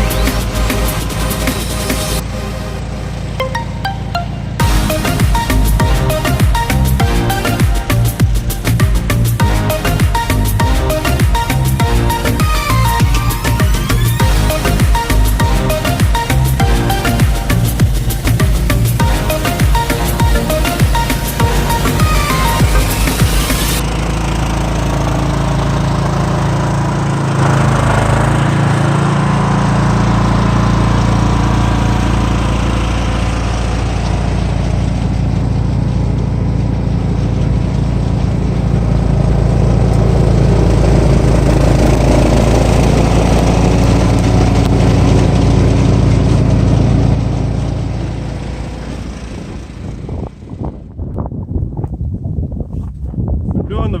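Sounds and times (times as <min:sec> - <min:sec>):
lawn tractor engine running: 0:00.0 - 0:51.0.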